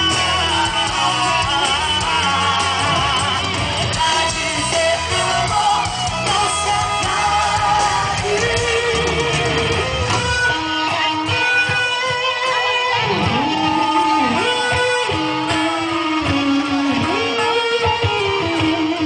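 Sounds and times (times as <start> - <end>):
electric guitars: 0.0 - 19.0
live rock band playing: 0.0 - 19.0
person singing: 0.0 - 19.0.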